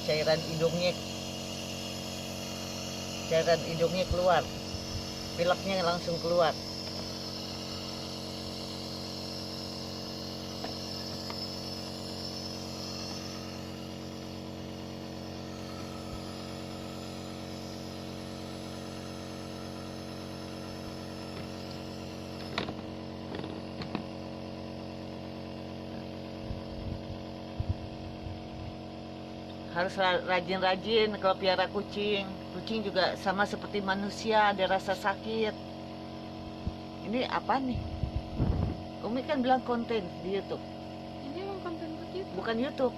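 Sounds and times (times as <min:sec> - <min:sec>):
nebulizer buzzing hum: 0:00.0 - 0:42.9.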